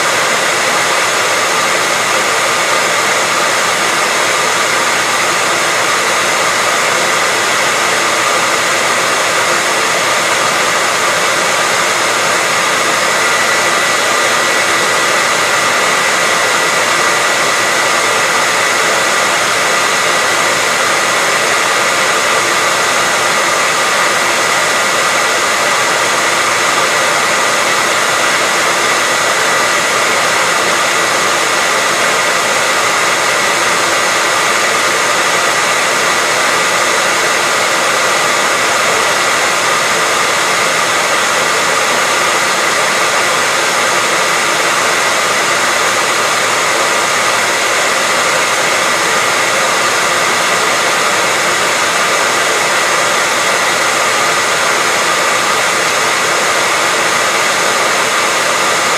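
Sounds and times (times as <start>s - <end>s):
hair dryer running: 0.0s - 58.9s.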